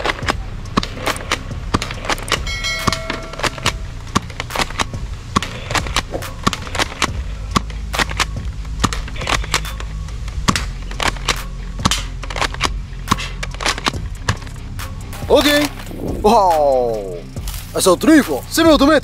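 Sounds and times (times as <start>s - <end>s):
steady low hum: 0.0s - 16.3s.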